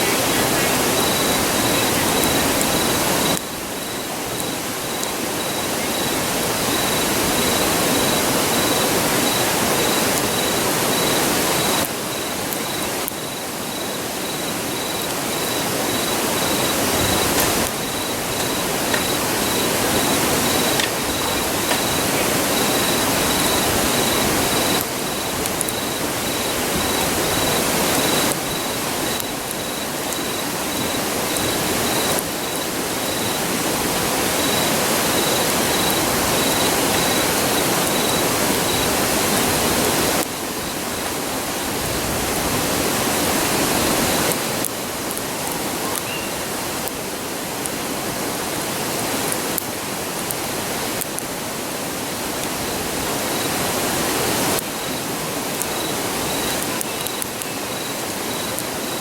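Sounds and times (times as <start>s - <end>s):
campfire crackling: 0.0s - 59.0s
river rushing: 0.0s - 59.0s.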